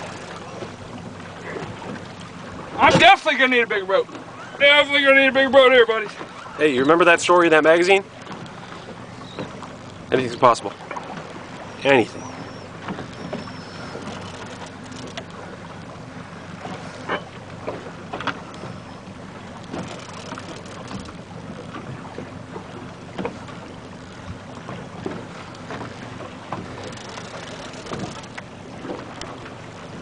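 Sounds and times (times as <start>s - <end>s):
boat motor humming: 0.0s - 30.0s
water noise: 0.0s - 30.0s
wind: 0.0s - 30.0s.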